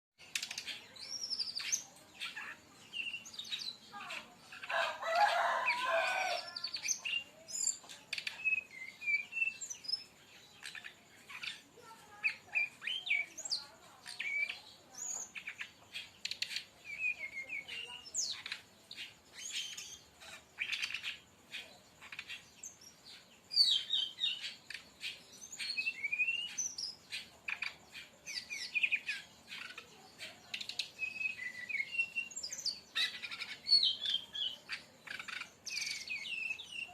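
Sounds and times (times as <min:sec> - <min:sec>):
bird singing whistles and chirps: 0:05.3 - 0:11.7, 0:12.3 - 0:20.0, 0:20.6 - 0:36.9.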